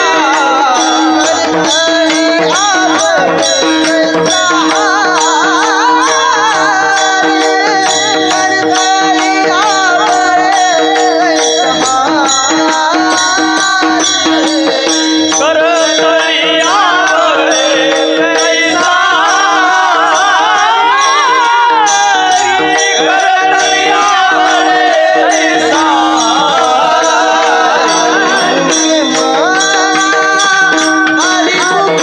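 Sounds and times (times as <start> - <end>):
man singing devotional song: 0.0 - 32.0
mridang drum strokes: 0.0 - 32.0
steady held drone: 0.0 - 32.0.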